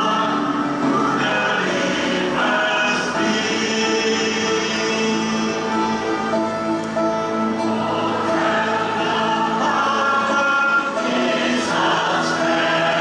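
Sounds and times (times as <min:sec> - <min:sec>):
choir singing long held chords: 0:00.0 - 0:13.0.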